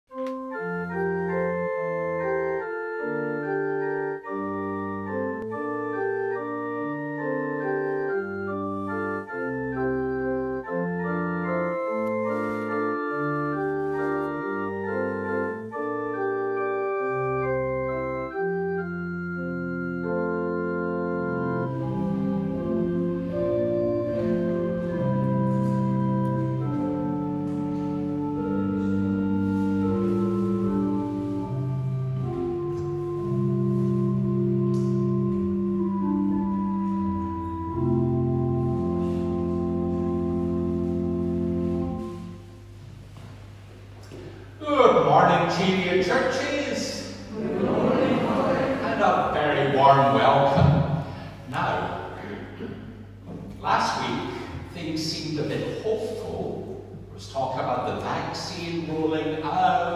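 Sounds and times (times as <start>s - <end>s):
organ playing hymn-like chords: 0.1s - 59.9s
faint room hiss: 0.2s - 59.9s.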